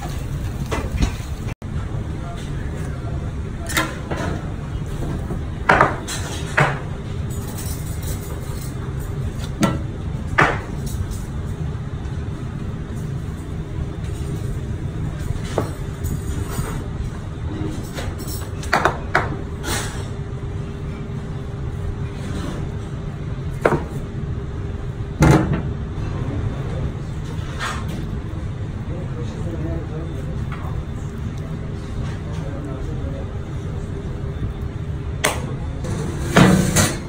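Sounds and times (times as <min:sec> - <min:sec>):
kitchen ventilation rumble: 0:00.0 - 0:37.0.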